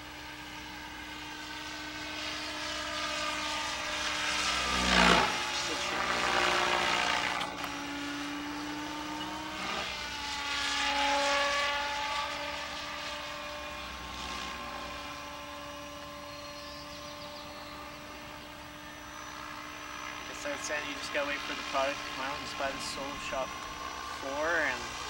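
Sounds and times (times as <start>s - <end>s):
model helicopter rotor whine: 0.0s - 25.0s.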